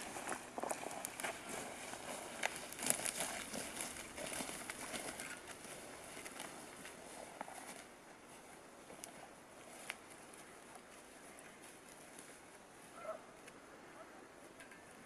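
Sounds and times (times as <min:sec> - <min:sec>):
footsteps crunching through snow: 0:00.0 - 0:13.3.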